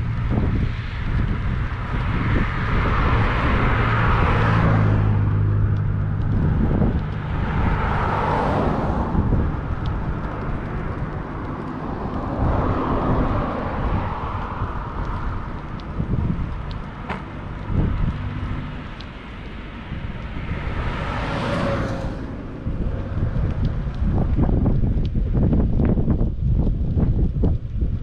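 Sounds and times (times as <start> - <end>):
cars passing: 0.0 - 28.0
wind rumble on microphone: 0.0 - 28.0.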